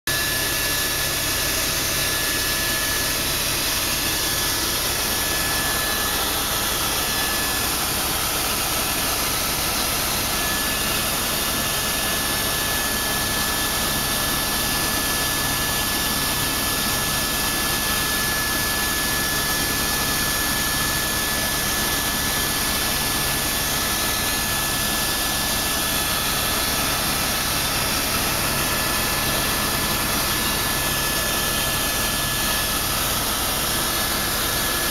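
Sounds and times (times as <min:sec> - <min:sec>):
helicopter engine and rotors: 0:00.1 - 0:34.9.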